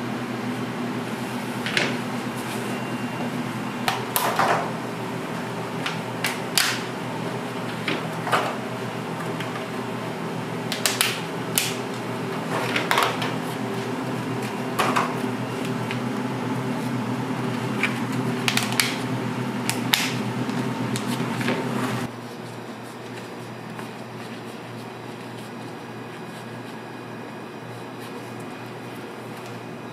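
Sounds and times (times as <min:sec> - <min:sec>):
machine hum: 0:00.0 - 0:29.9.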